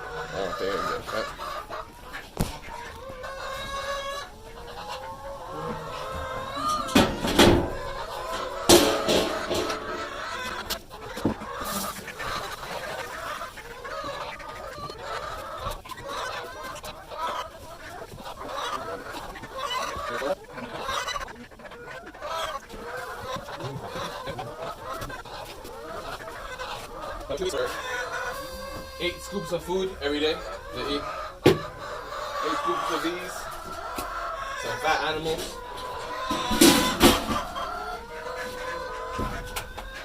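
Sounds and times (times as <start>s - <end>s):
chickens clucking and squawking: 0.0s - 40.0s.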